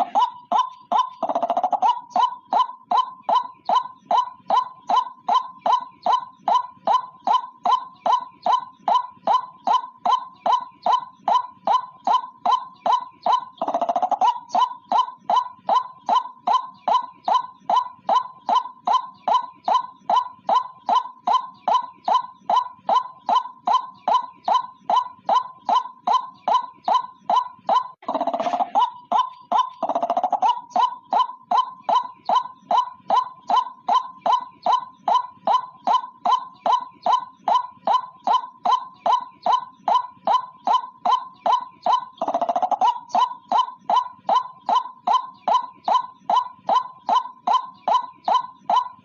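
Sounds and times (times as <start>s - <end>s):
waterhen calling: 0.0s - 49.0s.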